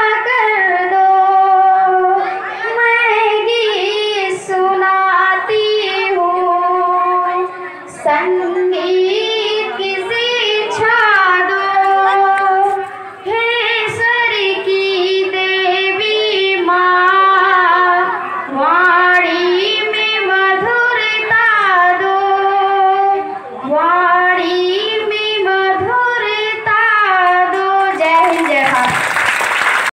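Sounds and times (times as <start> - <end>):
girl singing into a microphone: 0.0 - 29.0.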